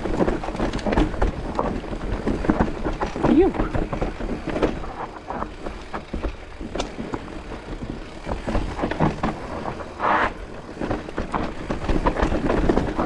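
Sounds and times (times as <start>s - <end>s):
bike knocks and rattles: 0.0s - 13.0s
tyres crunching over dirt: 0.0s - 13.0s.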